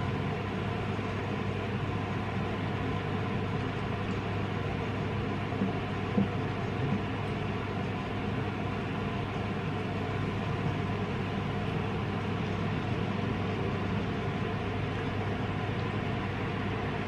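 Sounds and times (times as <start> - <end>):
steady low hum with hiss: 0.0 - 17.0.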